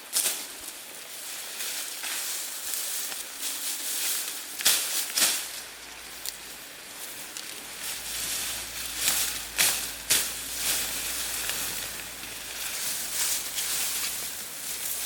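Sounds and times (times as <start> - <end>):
rustling and scraping: 0.0 - 15.0.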